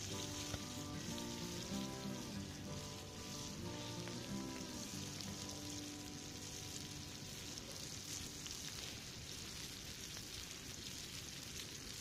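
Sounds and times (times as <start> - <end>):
eggs sizzling in a pan: 0.0 - 12.0
log fire crackling: 0.0 - 12.0.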